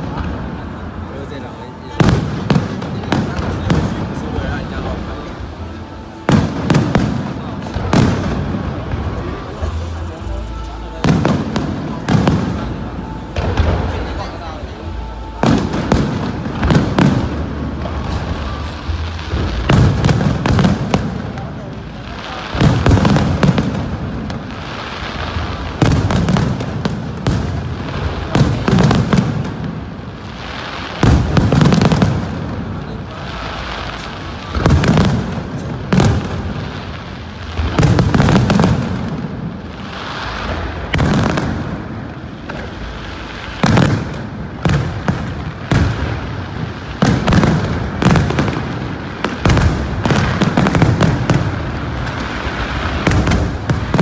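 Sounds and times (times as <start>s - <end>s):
firework shells booming: 0.0s - 54.0s
fireworks crackling and popping: 0.0s - 54.0s.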